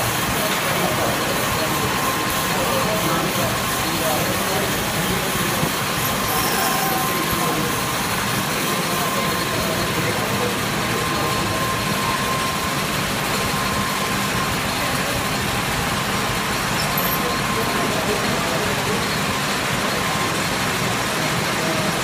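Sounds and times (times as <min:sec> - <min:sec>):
lathe cutting metal: 0:00.0 - 0:22.0
thin machine whine: 0:00.0 - 0:22.0.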